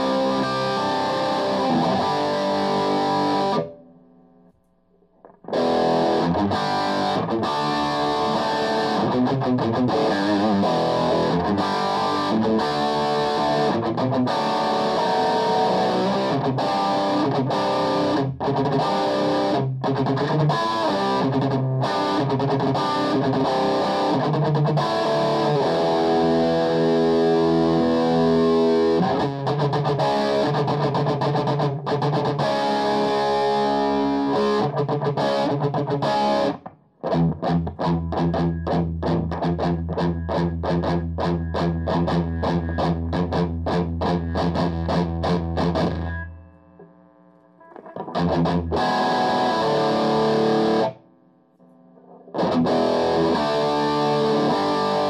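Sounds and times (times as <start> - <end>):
distorted electric guitar: 0.0 - 55.0.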